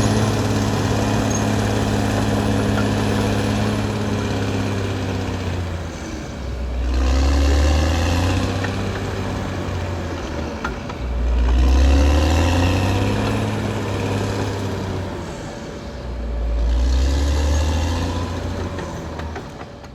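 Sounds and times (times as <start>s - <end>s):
bulldozer diesel engine revving: 0.0s - 19.9s.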